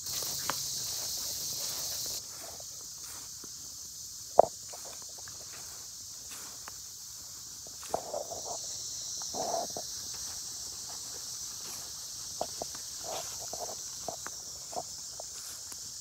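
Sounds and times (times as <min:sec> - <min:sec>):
dogs scuffling on grass: 0:00.0 - 0:03.8, 0:04.6 - 0:16.0
insects droning: 0:00.0 - 0:16.0.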